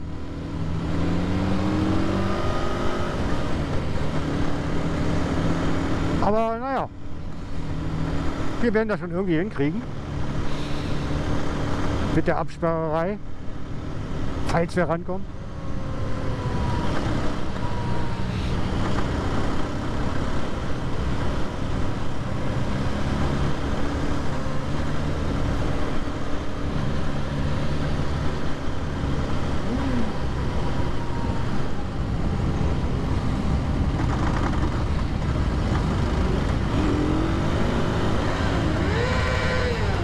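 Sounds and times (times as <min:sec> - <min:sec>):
motorcycle engines rumbling: 0:00.0 - 0:40.0.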